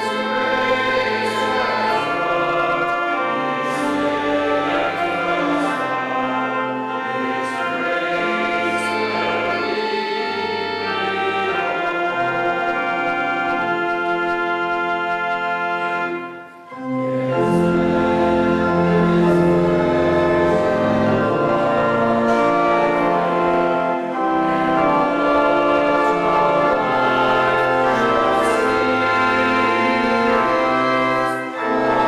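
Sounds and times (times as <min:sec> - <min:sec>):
church organ playing hymn: 0:00.0 - 0:32.0.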